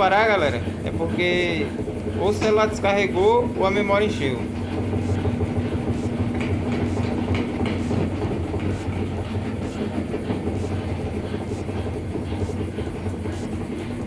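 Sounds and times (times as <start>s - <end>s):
washing machine drum spinning: 0.0s - 14.0s.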